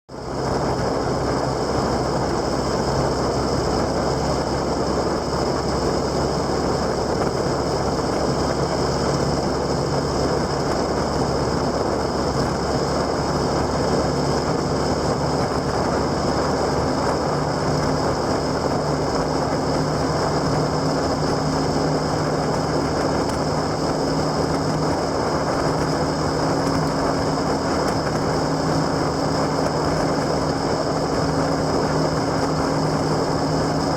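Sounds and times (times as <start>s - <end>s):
road and wind rush: 0.1s - 33.9s
motorcycle engine running: 0.3s - 33.9s.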